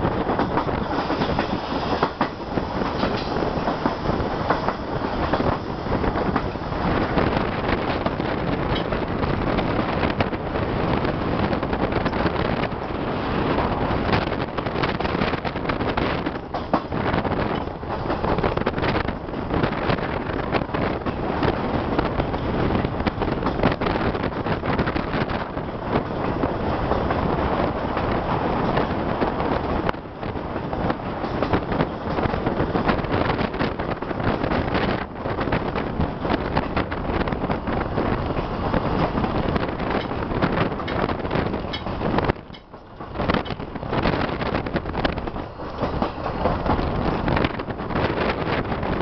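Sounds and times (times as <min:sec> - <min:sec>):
train running on rails: 0:00.0 - 0:49.0
wind buffeting microphone: 0:00.0 - 0:49.0.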